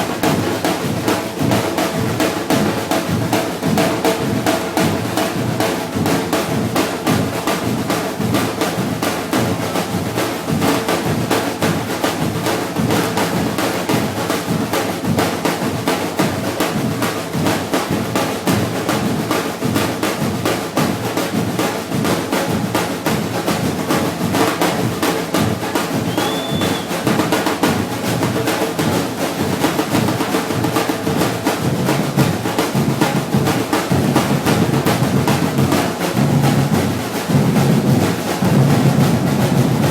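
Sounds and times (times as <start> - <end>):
snare drums: 0.0 - 39.9.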